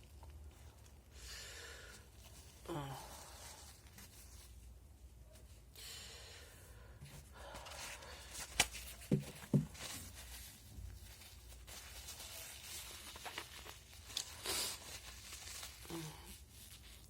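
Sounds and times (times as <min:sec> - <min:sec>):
faint rustling and handling: 0:00.0 - 0:05.8, 0:06.9 - 0:17.0.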